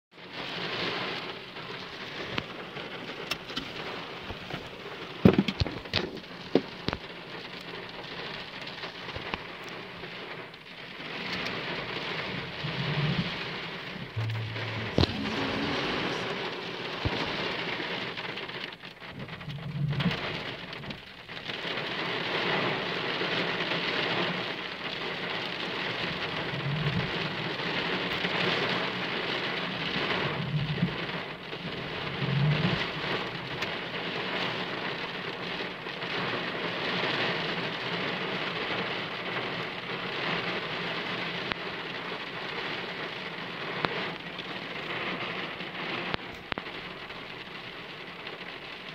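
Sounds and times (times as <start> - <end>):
heavy rain on car roof: 0.1 - 48.9.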